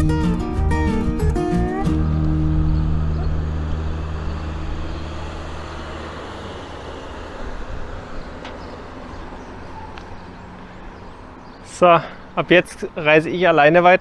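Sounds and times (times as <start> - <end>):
vehicle passing: 0.2 - 13.7.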